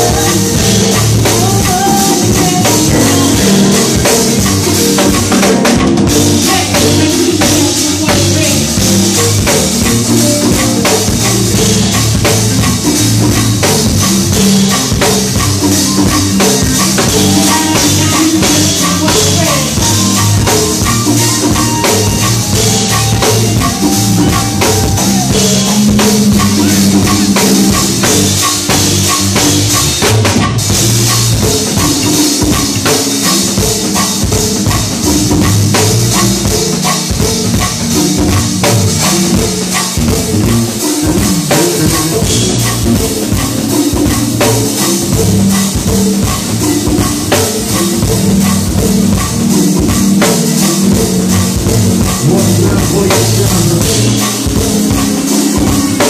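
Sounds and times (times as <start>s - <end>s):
bass guitar: 0.0s - 56.0s
drum kit beat: 0.0s - 56.0s
electric keyboards: 0.0s - 56.0s.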